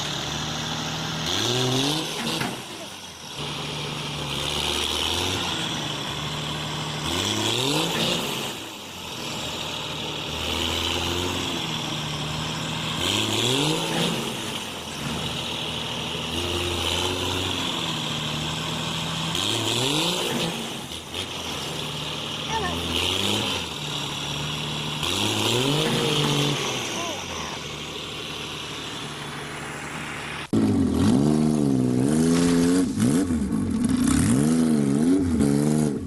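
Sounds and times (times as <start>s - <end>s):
vehicle engine revving: 0.0s - 36.0s.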